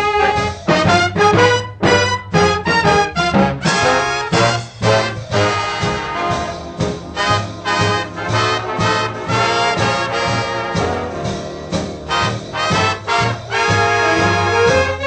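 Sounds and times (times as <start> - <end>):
brass section: 0.0 - 15.0
steady bass beat: 0.0 - 15.0.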